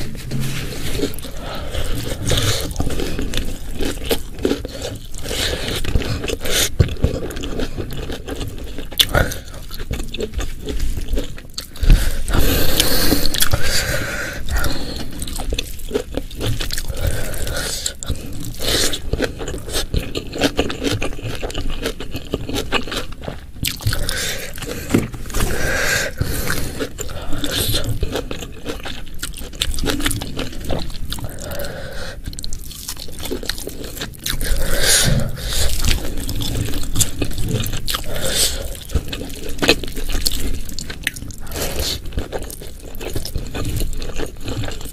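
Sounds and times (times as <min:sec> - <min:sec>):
wet chewing and crunching: 0:00.0 - 0:44.9.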